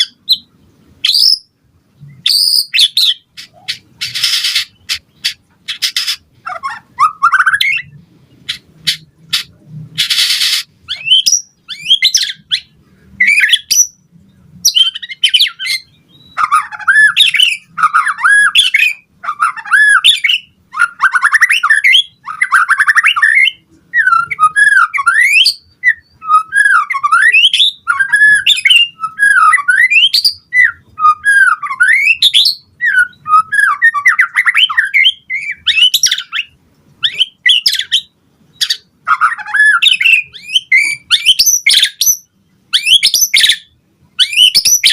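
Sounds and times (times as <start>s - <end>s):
bird singing varied phrases: 0.0s - 44.9s.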